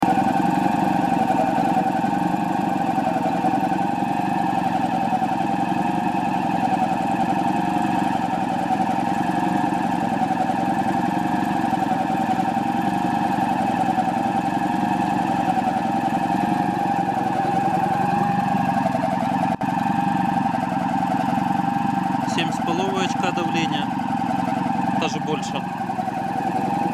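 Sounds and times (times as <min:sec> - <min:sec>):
air compressor running with whine: 0:00.0 - 0:26.9.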